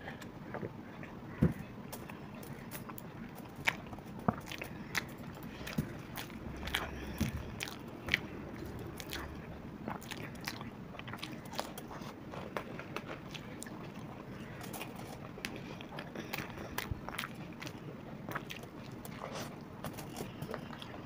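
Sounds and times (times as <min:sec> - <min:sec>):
crunchy bites and chewing: 0:00.1 - 0:21.0.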